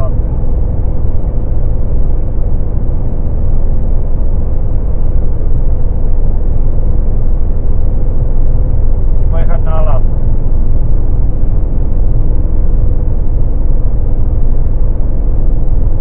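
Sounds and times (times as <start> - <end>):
faint steady hum: 0.0 - 16.0
road and wind noise in car: 0.0 - 16.0.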